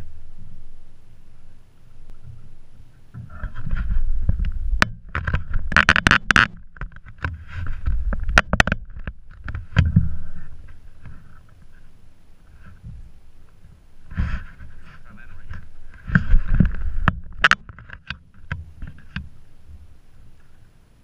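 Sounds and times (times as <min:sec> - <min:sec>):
wind and water against hull: 0:00.0 - 0:21.0.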